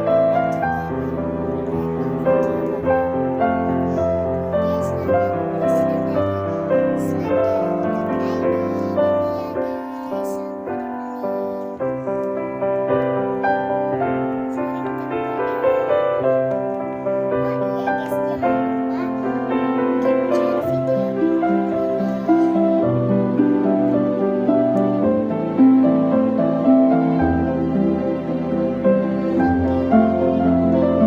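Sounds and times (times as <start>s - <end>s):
gentle piano music: 0.0s - 31.0s.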